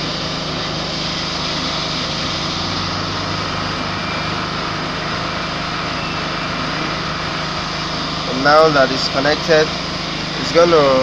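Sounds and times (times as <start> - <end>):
machine drone with low hum: 0.0 - 11.0.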